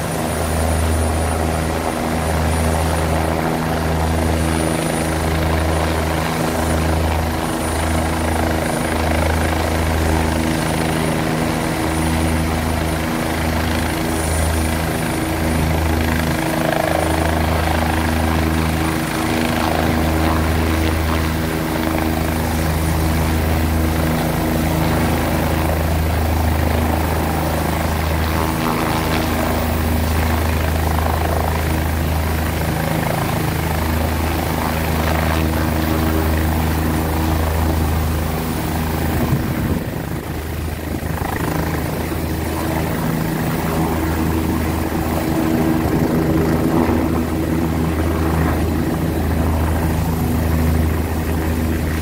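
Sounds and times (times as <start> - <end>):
helicopter engine tones: 0.0 - 52.0
helicopter rotor drone: 0.0 - 52.0.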